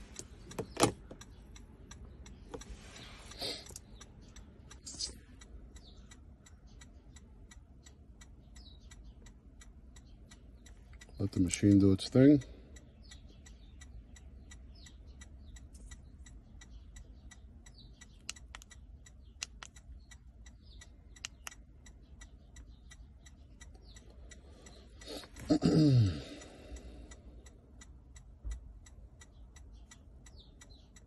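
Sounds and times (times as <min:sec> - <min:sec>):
hazard light flasher ticking: 0:00.0 - 0:02.7, 0:03.6 - 0:25.6, 0:26.2 - 0:31.0.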